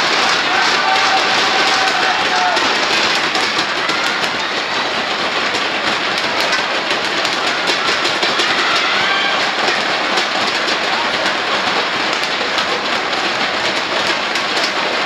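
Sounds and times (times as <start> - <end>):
arena crowd cheering and clapping: 0.0 - 15.0.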